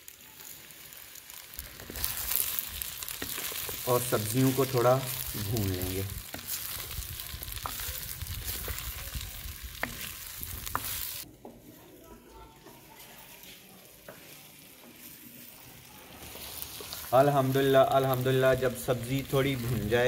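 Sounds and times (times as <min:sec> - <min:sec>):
vegetables sizzling in oil: 0:00.0 - 0:11.8, 0:12.6 - 0:20.0.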